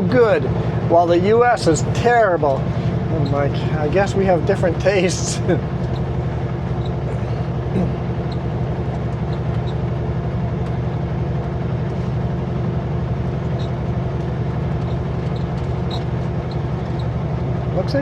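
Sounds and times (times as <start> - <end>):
diesel truck engine hum: 0.0 - 18.0
road noise: 0.0 - 18.0.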